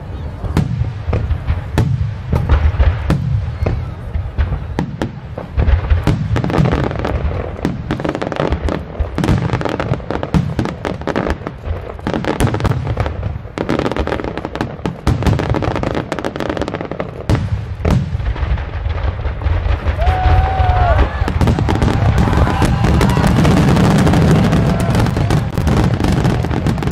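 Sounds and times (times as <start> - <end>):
fireworks booming and crackling: 0.0 - 26.9.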